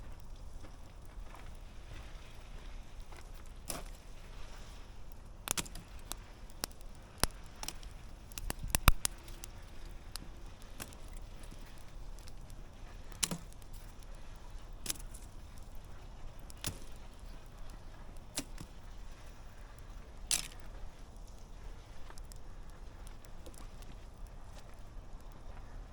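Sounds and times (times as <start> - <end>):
burning wood popping: 0.0 - 25.9
campfire crackling: 0.0 - 25.9.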